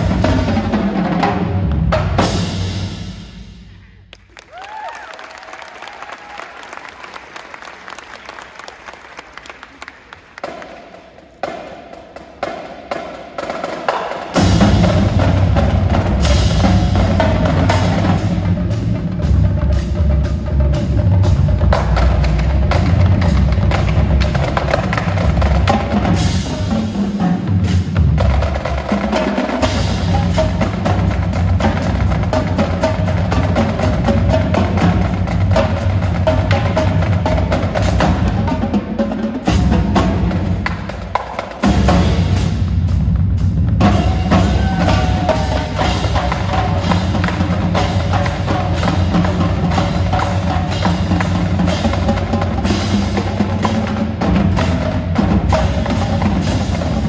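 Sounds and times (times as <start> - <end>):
marching bass drums: 0.0 - 4.0, 13.5 - 57.0
snare drums: 0.0 - 57.0.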